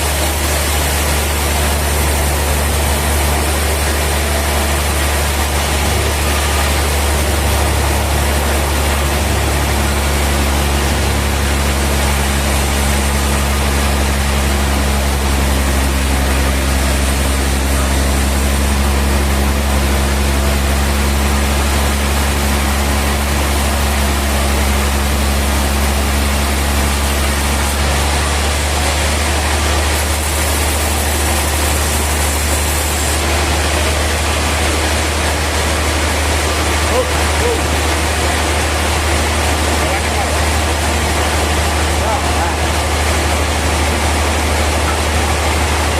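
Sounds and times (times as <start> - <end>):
sawmill machinery hum: 0.0 - 45.9.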